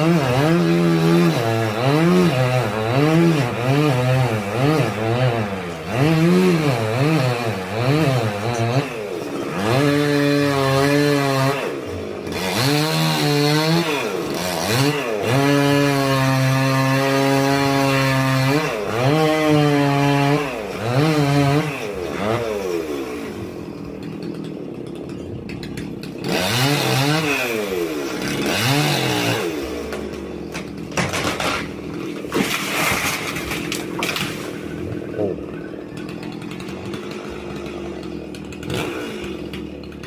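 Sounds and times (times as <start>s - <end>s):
chainsaw revving and cutting wood: 0.0s - 40.0s.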